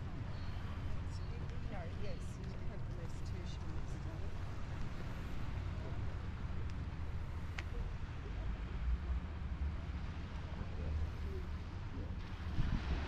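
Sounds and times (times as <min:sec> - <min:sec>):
faint voices of people passing: 0:00.0 - 0:12.6
wind rumble on microphone: 0:00.0 - 0:13.0.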